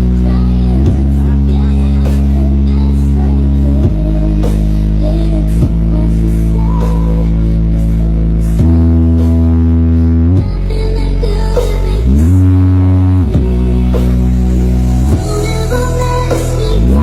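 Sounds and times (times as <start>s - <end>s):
heavy bass notes from loudspeakers: 0.0s - 17.0s.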